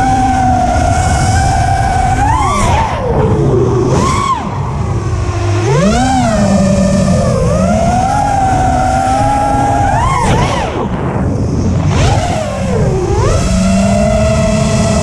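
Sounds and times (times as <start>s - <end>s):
quadcopter motors whining: 0.0s - 15.0s
wind rush: 0.0s - 15.0s.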